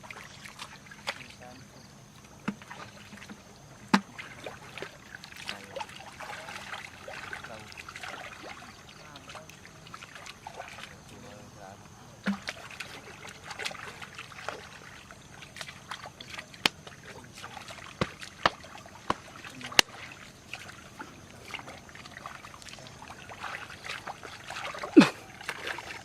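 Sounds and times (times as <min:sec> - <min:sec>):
water splashing and trickling: 0:00.0 - 0:26.0.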